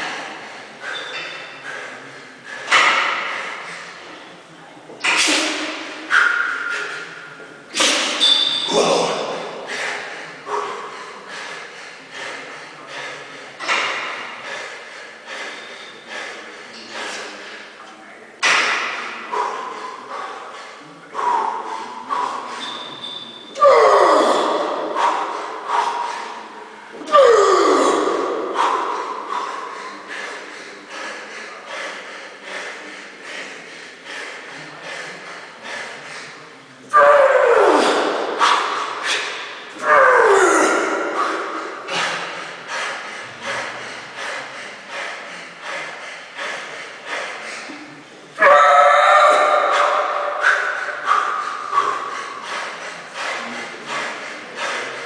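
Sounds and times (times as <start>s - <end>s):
man breathing hard: 0.0s - 55.0s
loud forceful exhales: 5.0s - 17.8s, 18.4s - 48.4s, 49.2s - 55.0s.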